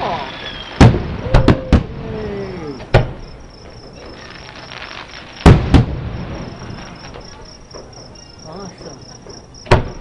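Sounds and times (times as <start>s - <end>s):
crickets chirping: 0.0s - 10.0s
distant fireworks bangs: 0.0s - 10.0s.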